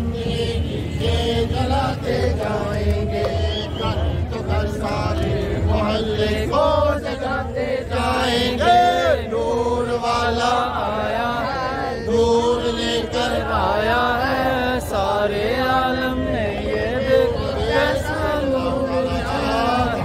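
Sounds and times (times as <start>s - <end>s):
men chanting devotional chant: 0.0s - 20.0s.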